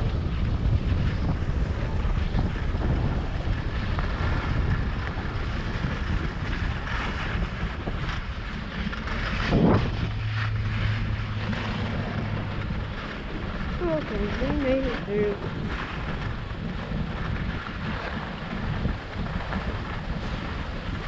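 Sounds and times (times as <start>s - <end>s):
skis sliding on snow: 0.0s - 21.0s
steady low hum: 0.0s - 21.0s
wind buffeting microphone: 0.0s - 21.0s.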